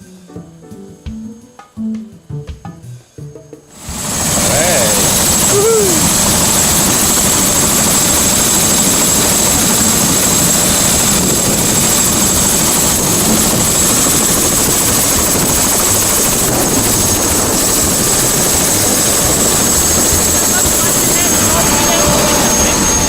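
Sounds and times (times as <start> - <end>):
helicopter engine and rotor roar: 3.7 - 23.0
high-pitched whine: 3.7 - 23.0.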